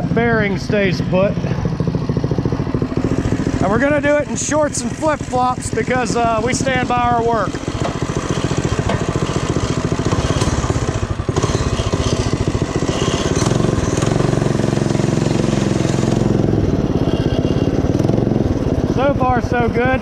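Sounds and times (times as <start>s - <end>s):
small motorbike engine running: 0.0s - 20.0s.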